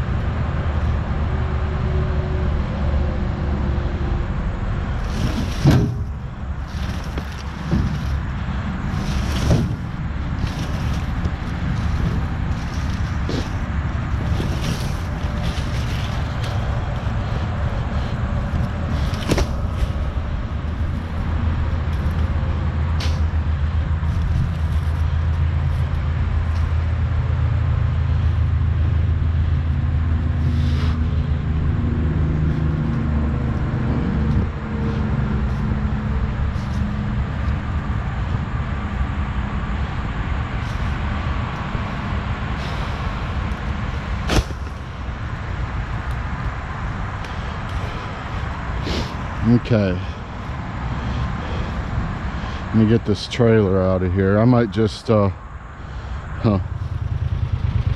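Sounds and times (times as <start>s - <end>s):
utility vehicle engine running: 0.0s - 57.9s.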